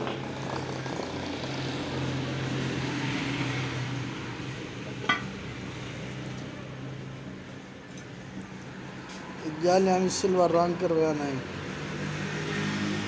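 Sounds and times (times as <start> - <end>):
passing vehicle: 0.0 - 13.0.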